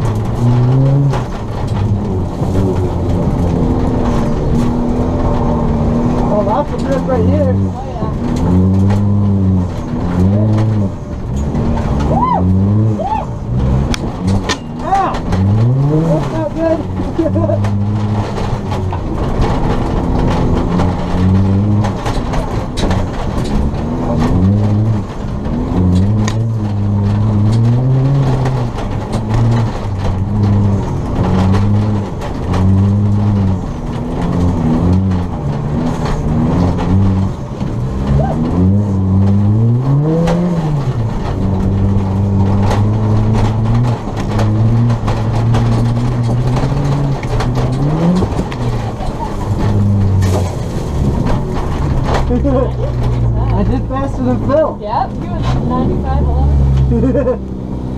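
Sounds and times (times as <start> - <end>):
car engine revving: 0.0 - 57.9
knocks and rattles: 0.0 - 57.9.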